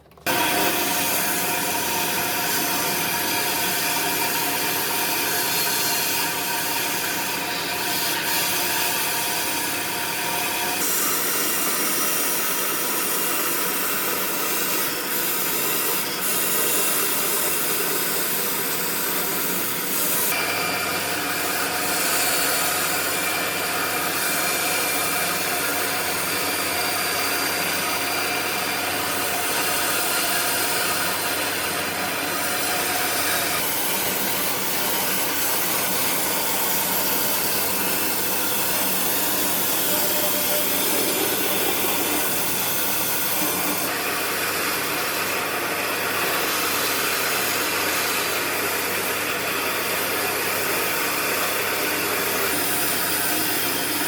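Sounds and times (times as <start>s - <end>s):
power tool on wood: 0.0s - 54.0s.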